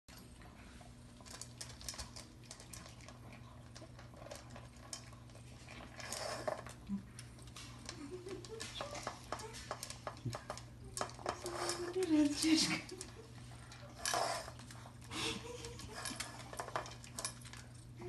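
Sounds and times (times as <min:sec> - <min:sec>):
dog food crunching: 0:00.1 - 0:18.0.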